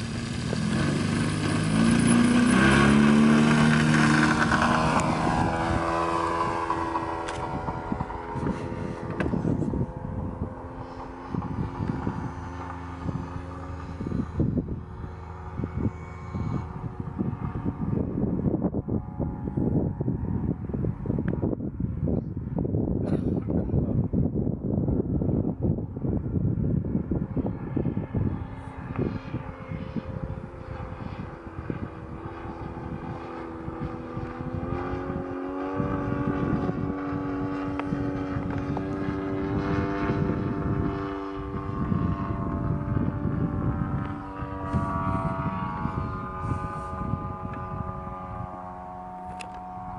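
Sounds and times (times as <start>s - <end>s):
model airplane engine running: 0.0s - 49.9s
wind buffeting microphone: 0.0s - 49.9s.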